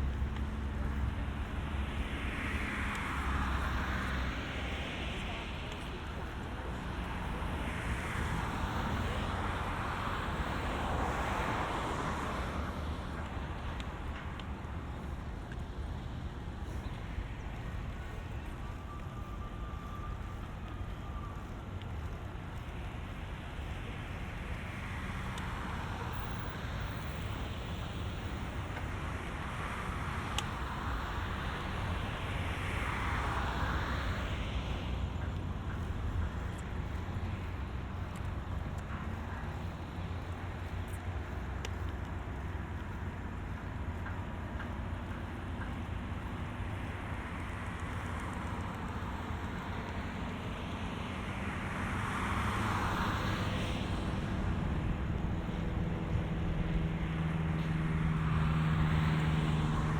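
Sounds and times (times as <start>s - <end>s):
road traffic with tyre noise: 0.0s - 59.9s.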